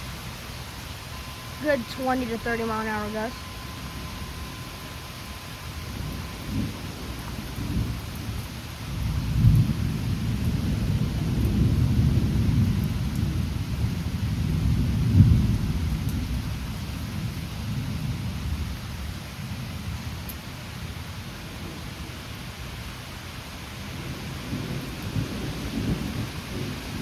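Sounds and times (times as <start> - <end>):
thunder rumble: 0.0 - 22.8, 23.6 - 27.0
rain hiss: 0.0 - 27.0.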